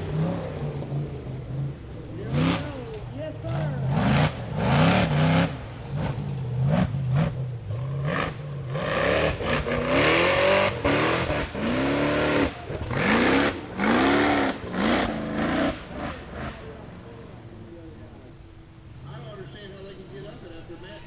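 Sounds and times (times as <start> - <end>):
buggy engine revving: 0.0 - 19.5.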